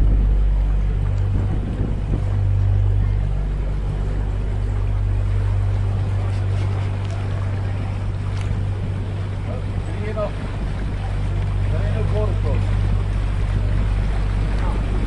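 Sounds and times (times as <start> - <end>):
boat motor humming: 0.0 - 15.0
water rushing along hull: 0.0 - 15.0.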